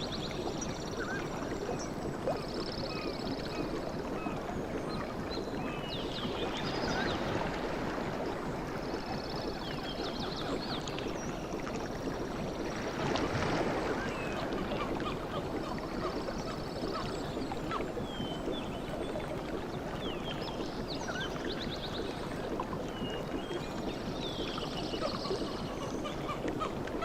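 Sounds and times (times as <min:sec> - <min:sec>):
sea water lapping: 0:00.0 - 0:27.0.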